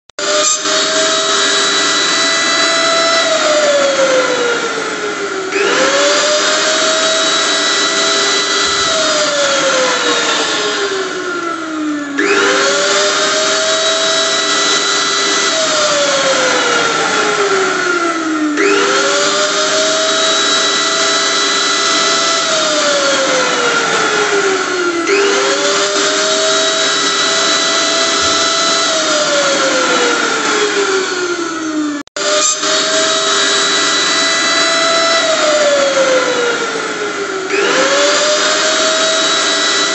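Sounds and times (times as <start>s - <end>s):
blender motor whining: 0.2s - 39.9s.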